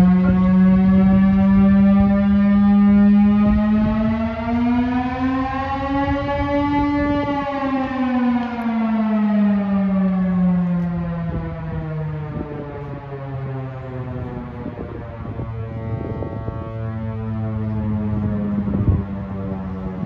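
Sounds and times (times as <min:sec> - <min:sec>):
air raid siren wailing: 0:00.0 - 0:20.0.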